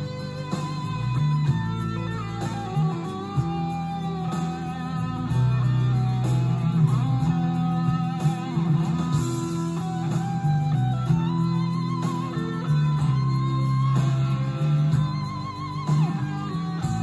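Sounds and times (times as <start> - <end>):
electric guitar instrumental music: 0.0 - 17.0.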